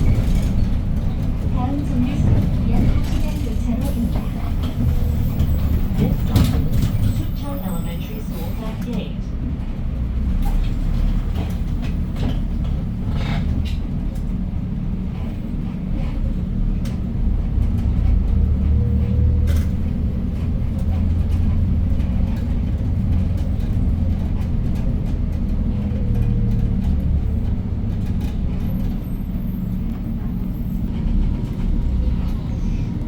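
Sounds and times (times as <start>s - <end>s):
bus engine low rumble: 0.0s - 33.0s.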